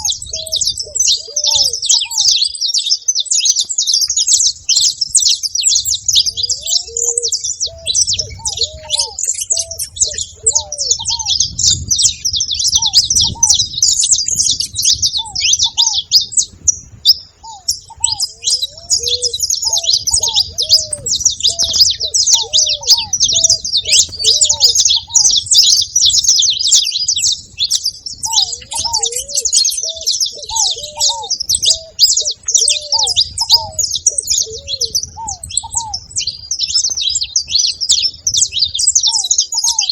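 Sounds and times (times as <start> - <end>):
finch singing in high chirps: 0.0 - 39.9
low hooked bird call notes: 0.0 - 39.9.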